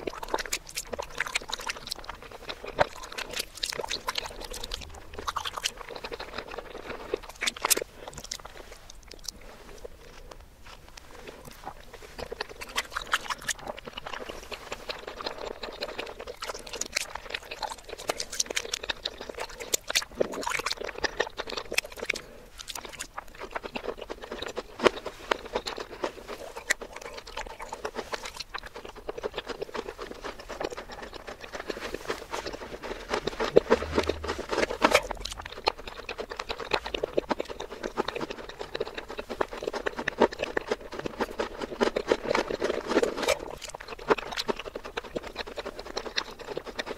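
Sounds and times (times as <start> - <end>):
reversed wet chewing: 0.0 - 46.9.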